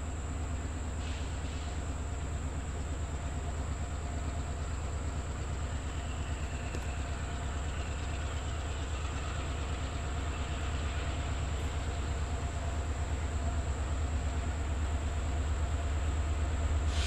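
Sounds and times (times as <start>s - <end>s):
train locomotive rumble: 0.0s - 17.0s.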